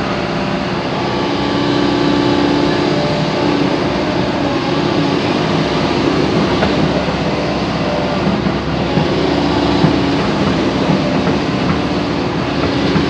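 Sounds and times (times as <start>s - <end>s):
excavator diesel and hydraulic drone: 0.0s - 13.0s.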